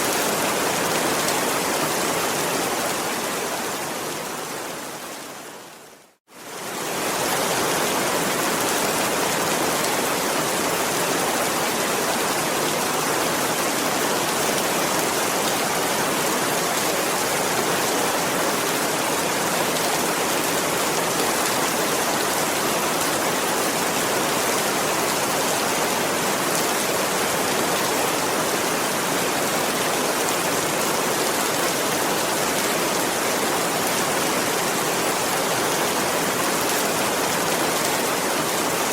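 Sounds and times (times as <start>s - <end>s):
dense rain: 0.0s - 38.9s.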